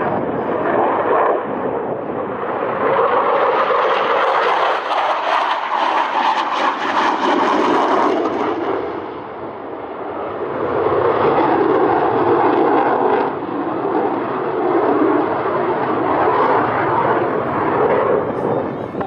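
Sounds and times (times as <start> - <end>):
jet engine rushing: 0.0 - 19.0.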